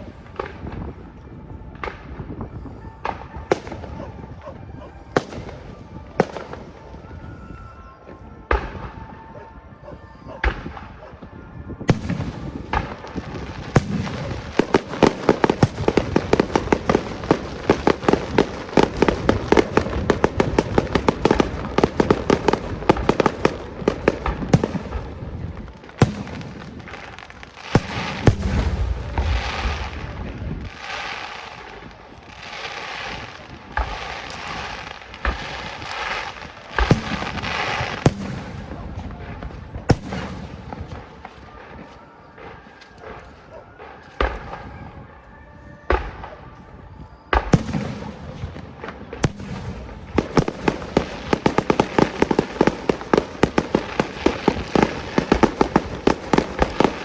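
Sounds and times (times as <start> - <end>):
fireworks bangs: 0.0 - 57.0
fireworks crackling: 0.0 - 57.0
fireworks booms: 10.3 - 45.1, 45.9 - 57.0.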